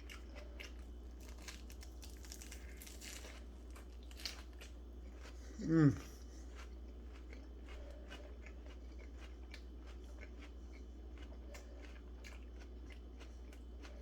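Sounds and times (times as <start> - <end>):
person chewing food: 0.0 - 14.0
steady low hum: 0.0 - 14.0.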